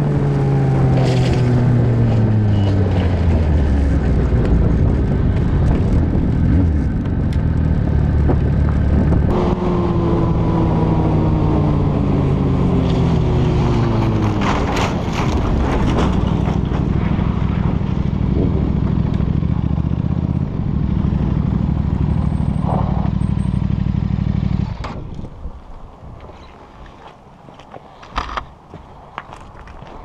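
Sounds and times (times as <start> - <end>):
wind noise: 0.0 - 21.6, 24.6 - 30.0
motorcycle engine: 0.0 - 25.3.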